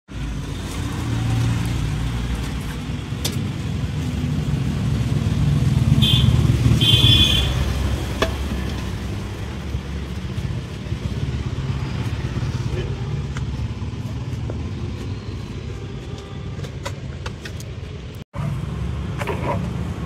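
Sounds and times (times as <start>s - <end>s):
vehicle engines rumbling past: 0.1s - 20.0s.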